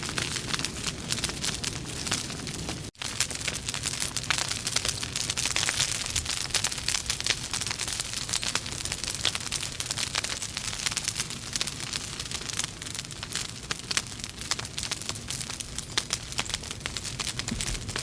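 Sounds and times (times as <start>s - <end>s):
burning logs crackling: 0.0s - 18.0s.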